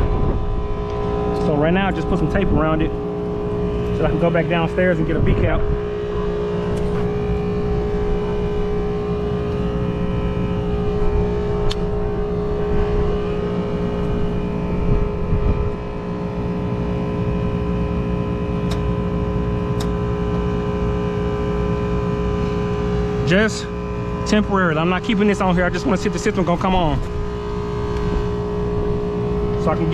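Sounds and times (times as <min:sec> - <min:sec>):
air conditioner humming: 0:00.0 - 0:29.9.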